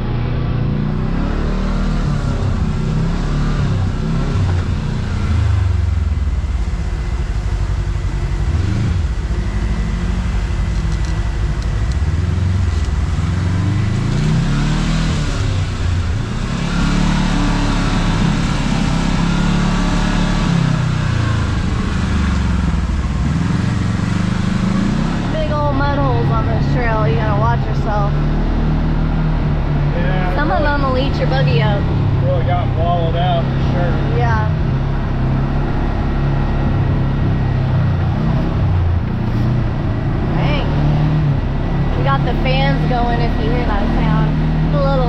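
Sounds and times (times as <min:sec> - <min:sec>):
off-road vehicle engine revving: 0:00.0 - 0:45.0.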